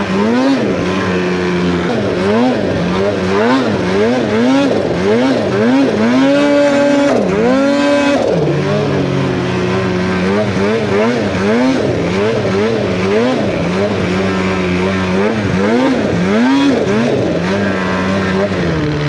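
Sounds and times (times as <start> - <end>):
snowmobile engine revving: 0.0 - 19.0.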